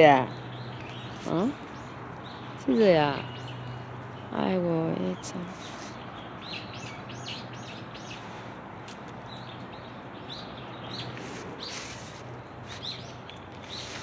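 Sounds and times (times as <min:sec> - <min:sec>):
outdoor background noise: 0:00.0 - 0:14.0
small birds chirping: 0:00.0 - 0:14.0.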